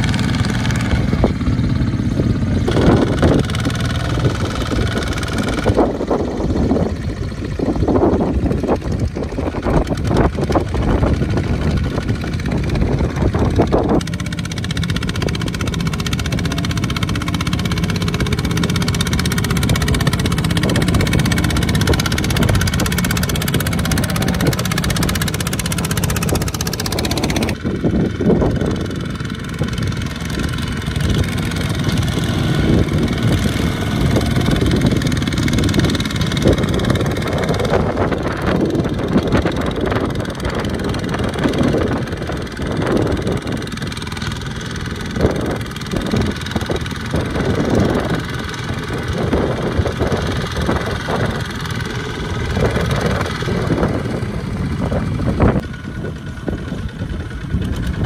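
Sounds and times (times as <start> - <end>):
diesel tractor engines under load: 0.0 - 58.0.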